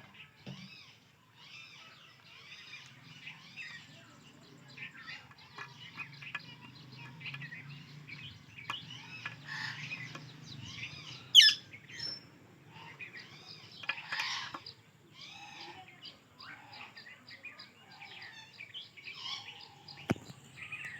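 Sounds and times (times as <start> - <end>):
parakeets chirping: 0.2 - 20.9.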